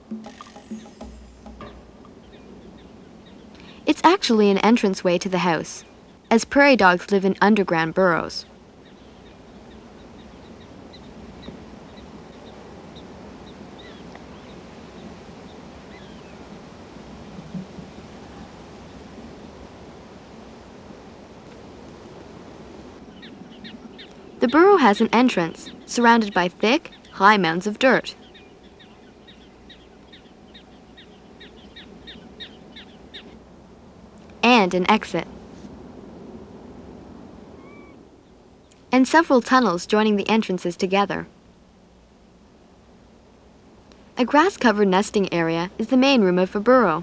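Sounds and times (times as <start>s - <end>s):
wind noise: 0.0s - 41.4s
low steady background hiss: 0.0s - 47.0s.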